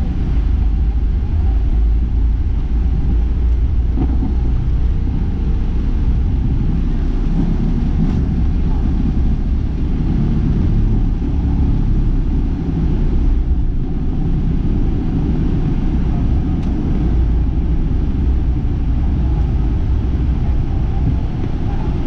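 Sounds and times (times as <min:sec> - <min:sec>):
airflow and runway noise: 0:00.0 - 0:22.0
jet engines rumbling in cabin: 0:00.0 - 0:22.0.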